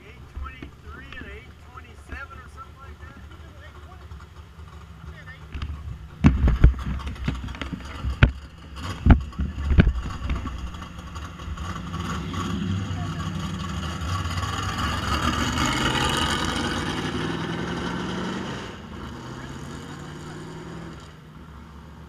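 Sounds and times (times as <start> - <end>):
vehicle engine: 0.0 - 22.0.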